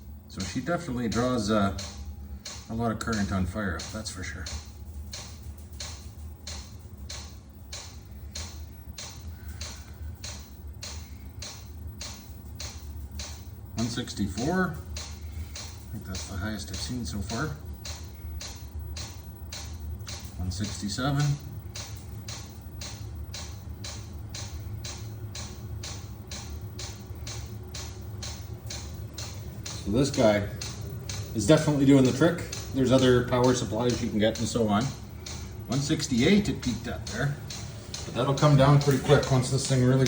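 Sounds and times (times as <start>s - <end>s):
fuel pump ticking: 0.0s - 40.0s
steady low hum: 0.0s - 40.0s.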